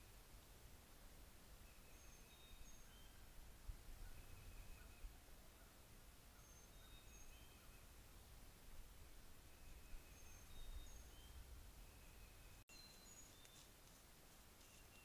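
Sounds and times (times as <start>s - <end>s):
faint distant bird song: 0.0s - 15.0s.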